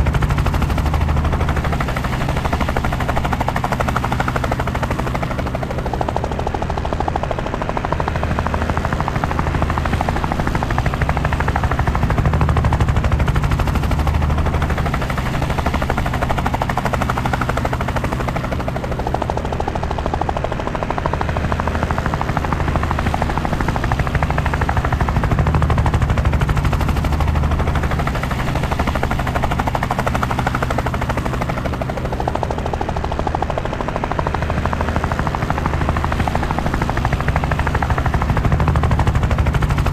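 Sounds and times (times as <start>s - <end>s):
helicopter rotor chop and drone: 0.0s - 39.9s.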